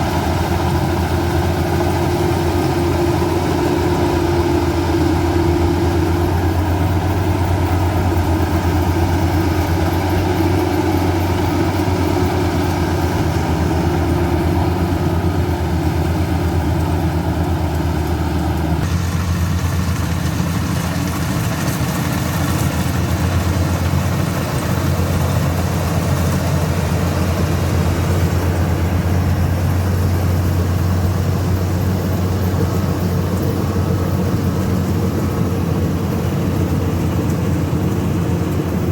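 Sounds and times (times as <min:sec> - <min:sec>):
combine harvester engine droning: 0:00.0 - 0:38.9.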